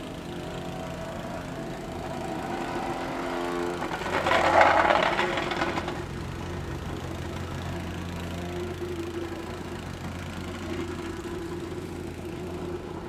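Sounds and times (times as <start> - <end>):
plate compactor engine running: 0.0 - 13.0.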